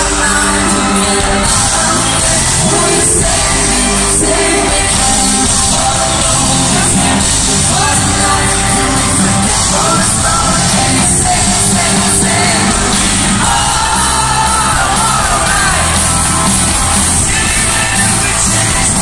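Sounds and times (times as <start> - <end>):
crowd yelling along: 0.0 - 19.0
live rock band playing: 0.0 - 19.0
person singing lead vocal: 0.0 - 19.0.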